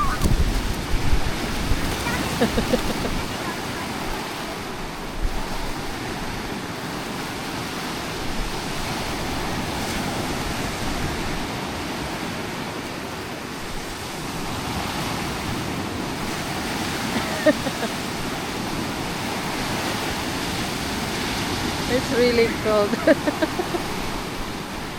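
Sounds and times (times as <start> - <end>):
sea waves breaking on shore: 0.0 - 24.9.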